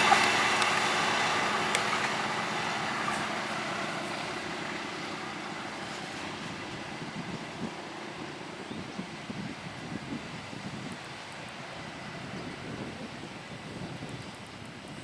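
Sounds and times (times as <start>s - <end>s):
passing train running noise: 0.0s - 15.0s.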